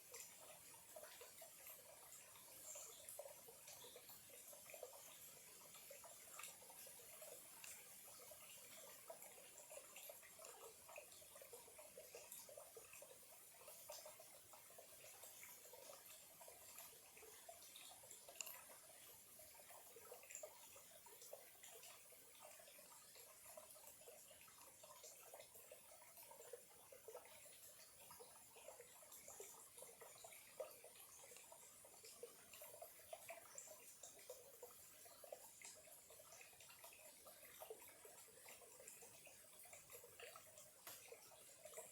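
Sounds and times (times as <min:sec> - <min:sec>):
stream trickling: 0:00.0 - 0:41.9.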